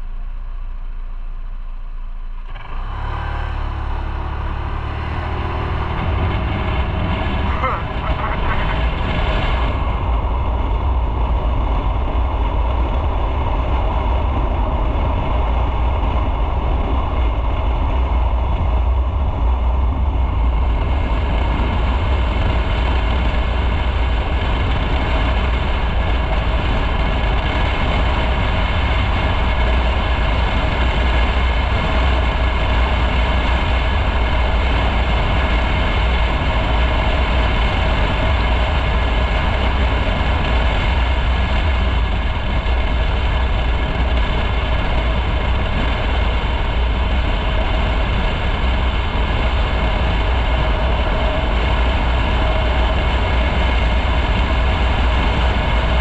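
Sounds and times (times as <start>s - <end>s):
motorcycle engine rumble: 0.0s - 56.0s.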